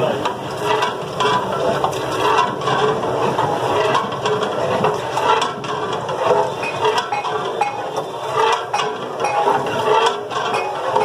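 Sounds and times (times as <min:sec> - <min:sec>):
metal ladle scraping pot: 0:00.2 - 0:11.0.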